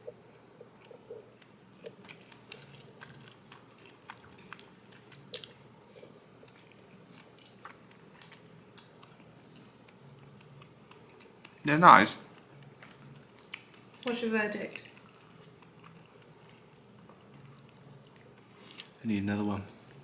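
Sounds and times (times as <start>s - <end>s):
faint chewing and mouth sounds: 0.0s - 19.1s.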